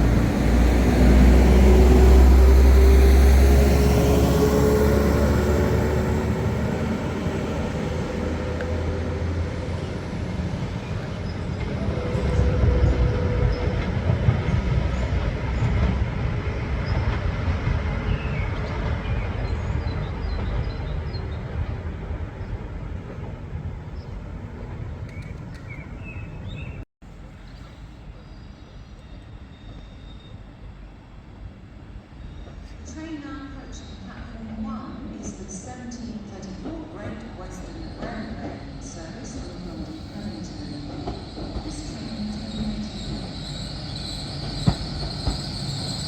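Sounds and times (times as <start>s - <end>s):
train wheel noise: 0.0s - 27.3s, 34.2s - 46.0s
diesel train engine rumble: 0.0s - 46.0s.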